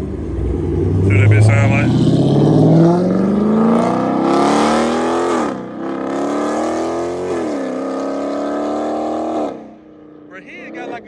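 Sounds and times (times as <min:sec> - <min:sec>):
car engine accelerating through gears: 0:00.0 - 0:09.7.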